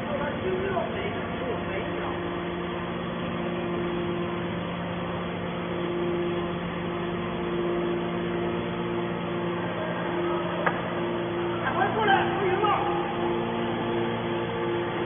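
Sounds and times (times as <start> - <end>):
baler motor and pump humming: 0.0 - 15.0.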